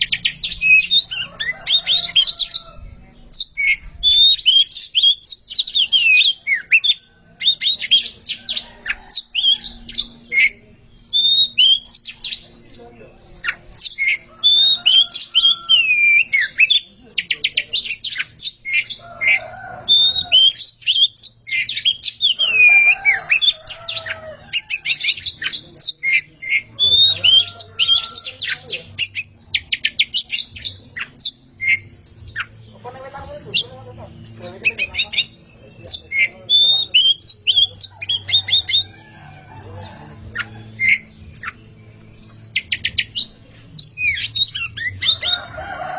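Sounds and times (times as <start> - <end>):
birds singing whistled phrases: 0.0 - 45.9.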